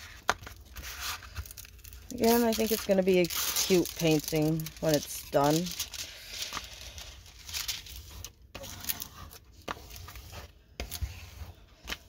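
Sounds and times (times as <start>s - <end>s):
plastic film rustling and crinkling: 0.0s - 11.1s.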